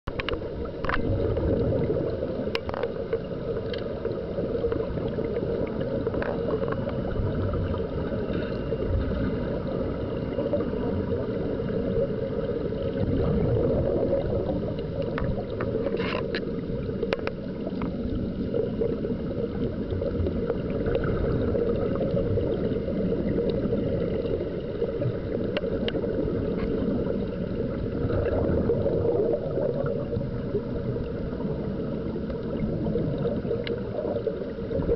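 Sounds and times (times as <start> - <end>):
underwater air bubbling: 0.1 - 34.9.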